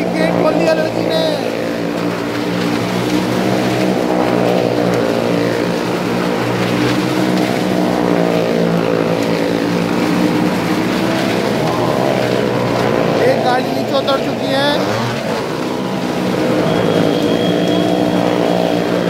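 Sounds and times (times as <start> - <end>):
car and motorcycle engines droning: 0.0 - 19.0.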